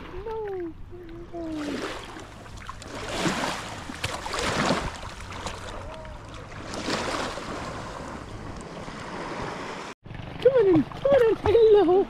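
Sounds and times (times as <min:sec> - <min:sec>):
sea water washing and splashing: 0:01.4 - 0:12.0.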